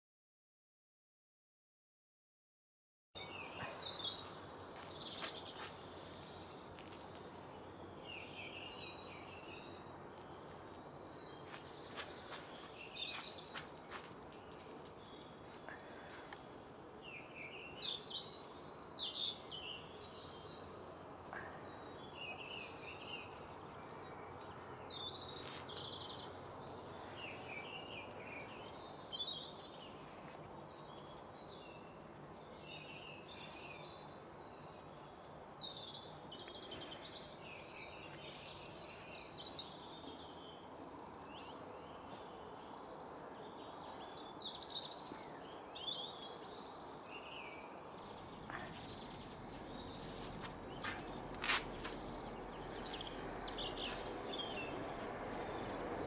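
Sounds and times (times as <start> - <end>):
small birds chirping and singing: 3.2 - 56.0
steady outdoor hiss: 3.2 - 56.0.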